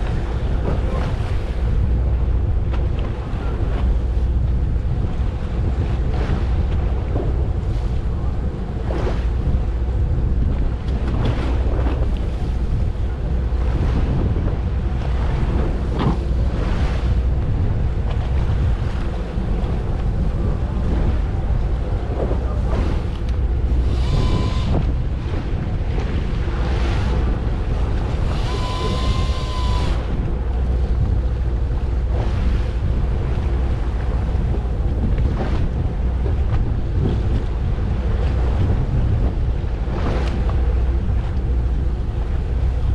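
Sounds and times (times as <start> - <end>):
boat engine rumble: 0.0 - 42.9
wind buffeting microphone: 0.0 - 42.9.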